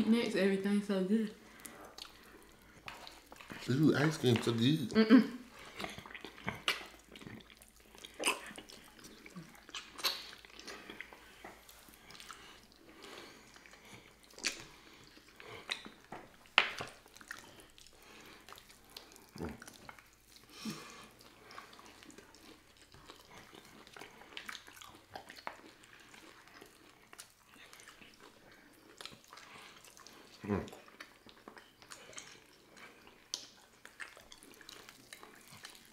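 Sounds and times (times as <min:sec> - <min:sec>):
wet chewing and lip smacking: 0:01.4 - 0:35.9.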